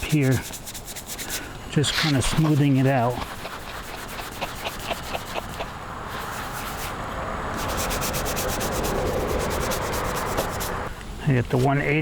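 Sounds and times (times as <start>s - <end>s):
sandpaper sanding filler: 0.0s - 6.9s, 7.6s - 10.9s.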